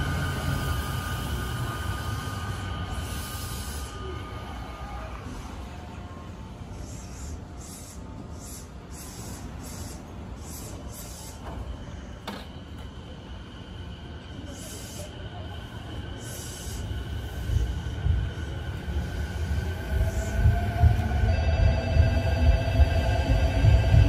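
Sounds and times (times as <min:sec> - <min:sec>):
electric train low rumble: 0:00.0 - 0:24.0.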